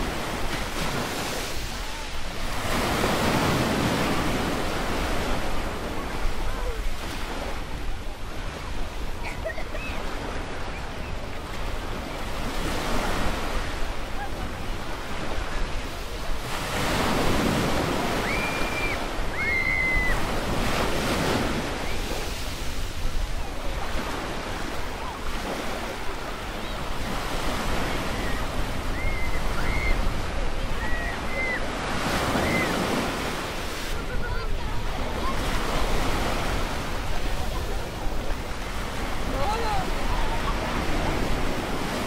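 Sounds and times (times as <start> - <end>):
waves washing onto sand: 0.0 - 42.0.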